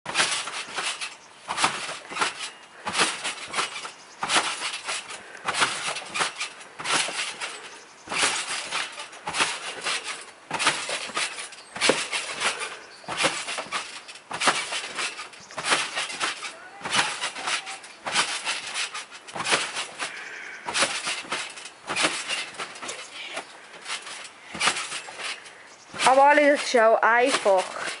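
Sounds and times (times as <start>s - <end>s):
trampoline springs and mat bouncing: 0.1s - 28.0s.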